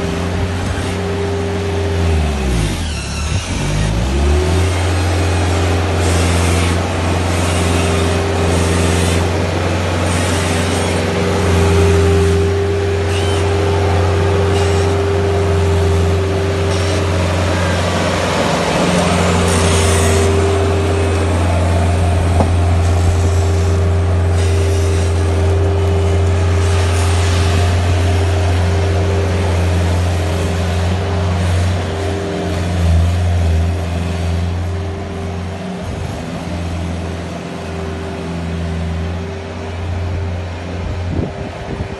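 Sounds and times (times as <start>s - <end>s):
loader engine droning: 0.0s - 41.9s.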